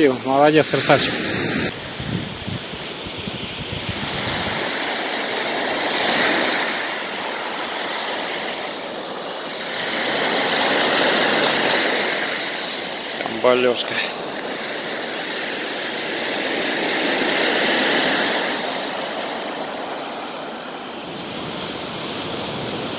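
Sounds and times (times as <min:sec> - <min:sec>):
sea surf on shore: 0:00.0 - 0:22.9
wind buffeting microphone: 0:01.4 - 0:22.9.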